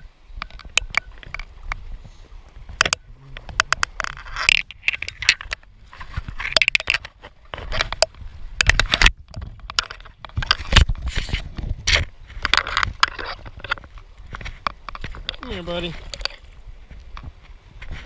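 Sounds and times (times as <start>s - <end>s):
fly line scraping and clicking: 0.4s - 18.0s.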